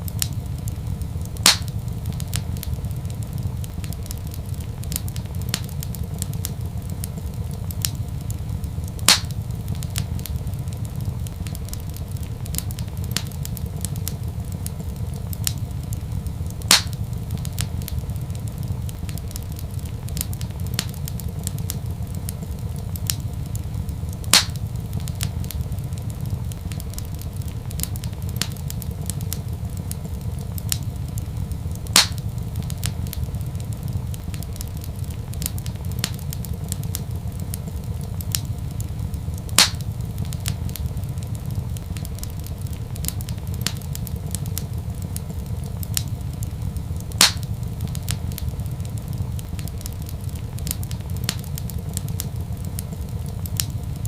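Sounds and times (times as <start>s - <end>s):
loud sharp fire pops: 0.0s - 54.0s
wood fire crackling: 0.0s - 54.0s.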